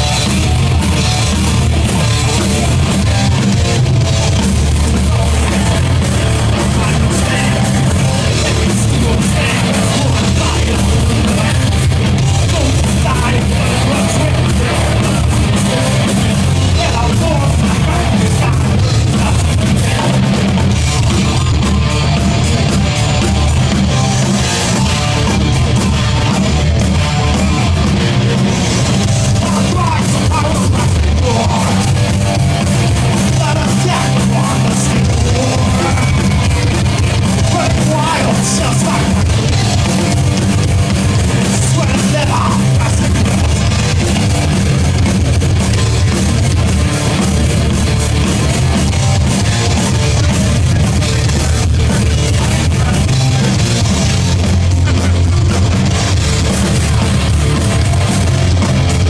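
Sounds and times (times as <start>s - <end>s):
thrash metal band playing: 0.0s - 59.0s.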